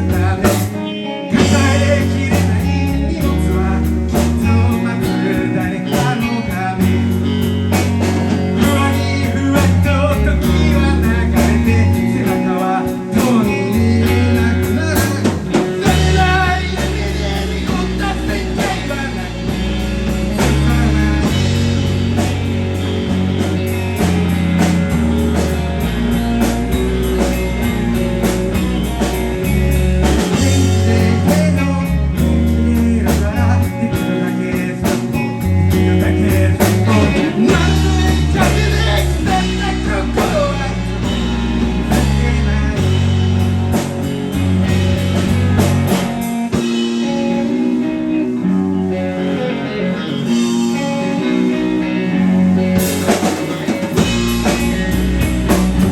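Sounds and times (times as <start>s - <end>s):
person singing: 0.0s - 43.9s, 44.7s - 55.9s
blues rock band playing: 0.0s - 55.9s.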